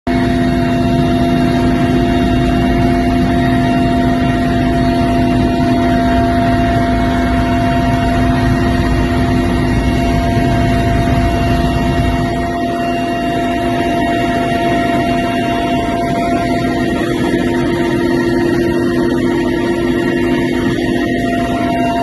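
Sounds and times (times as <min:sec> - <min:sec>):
aircraft engines droning: 0:00.1 - 0:22.0.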